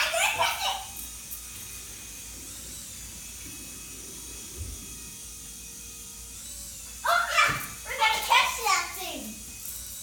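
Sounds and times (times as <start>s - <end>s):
faint thin steady tones: 0.0s - 10.0s.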